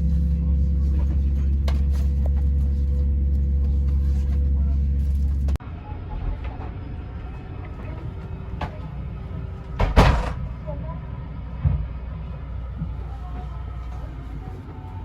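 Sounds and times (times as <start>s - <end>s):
airliner cabin low hum: 0.0s - 15.0s.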